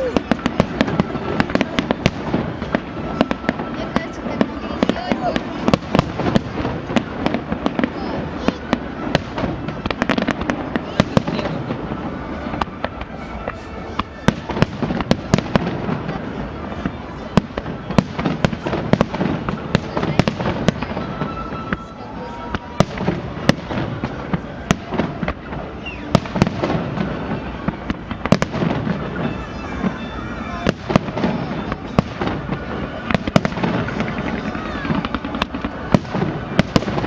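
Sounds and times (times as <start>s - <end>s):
fireworks bangs and cracks: 0.0s - 37.0s
rumble of fireworks bursts: 0.0s - 37.0s.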